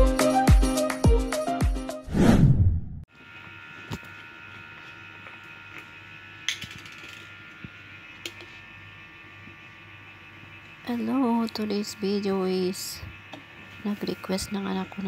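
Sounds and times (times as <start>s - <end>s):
low hum with tones: 2.1s - 15.0s.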